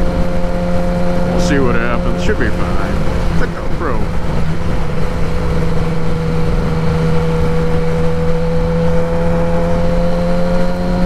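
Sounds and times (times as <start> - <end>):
motorcycle engine cruising: 0.0 - 11.0
wind and road rush: 0.0 - 11.0.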